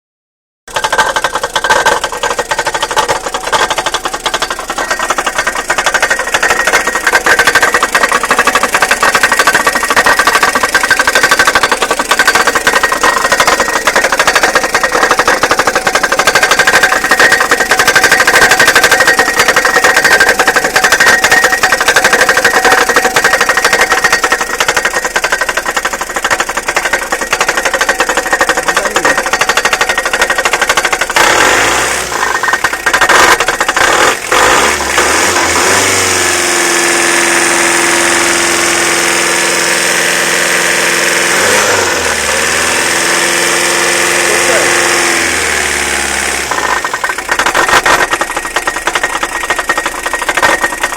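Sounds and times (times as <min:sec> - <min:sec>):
diesel engine running with knocking: 0:00.7 - 0:50.9.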